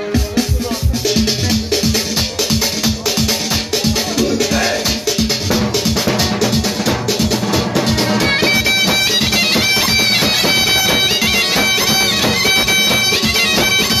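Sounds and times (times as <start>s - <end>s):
programmed drum beat: 0.0s - 14.0s
reedy keyboard lead melody: 0.0s - 14.0s.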